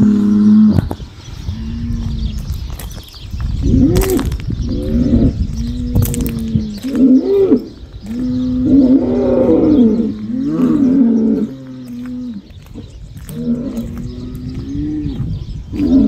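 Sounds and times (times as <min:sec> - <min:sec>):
bulls bellowing: 0:00.0 - 0:02.5, 0:03.6 - 0:16.0.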